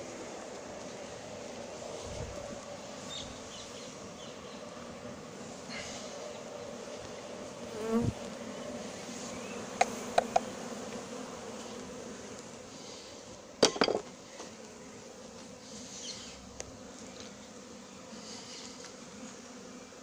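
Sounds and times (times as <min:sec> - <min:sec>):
bee buzzing past: 0:00.0 - 0:20.0
honeybees buzzing: 0:00.0 - 0:20.0.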